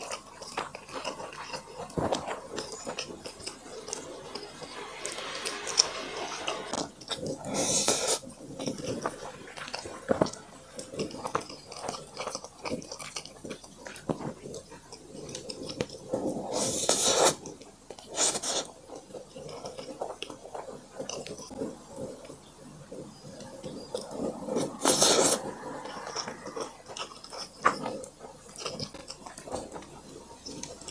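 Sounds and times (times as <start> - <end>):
person chewing and biting: 0.0 - 30.9.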